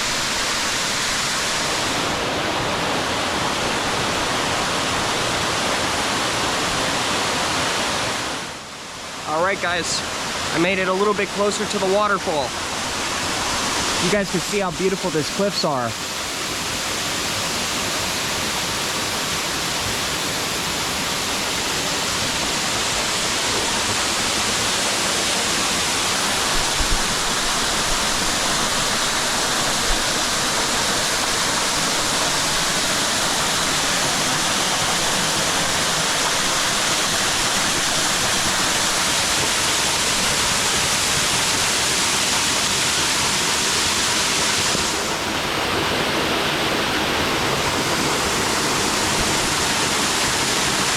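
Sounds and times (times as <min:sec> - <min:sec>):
waterfall pouring onto a creek: 0:00.0 - 0:50.9.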